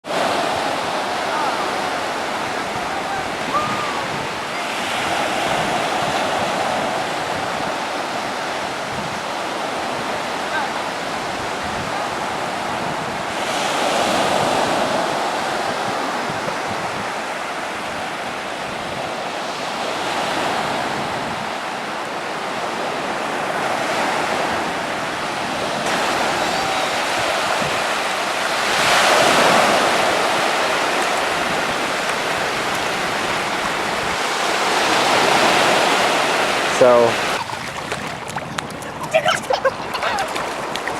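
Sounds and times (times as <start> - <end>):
waves breaking on beach: 0.0 - 40.9.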